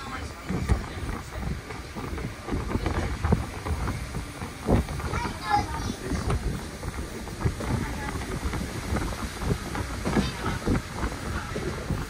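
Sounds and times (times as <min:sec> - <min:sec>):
train rumbling: 0:00.0 - 0:12.0
voices in background: 0:00.0 - 0:12.0.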